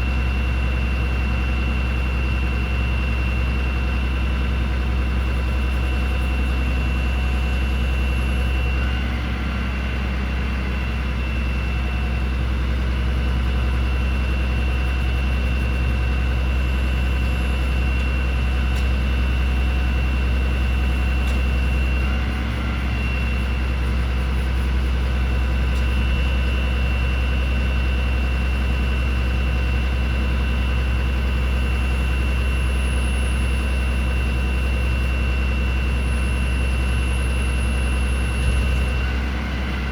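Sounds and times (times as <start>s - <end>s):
diesel truck engine idling: 0.0s - 39.9s
high-pitched whine: 0.0s - 39.9s.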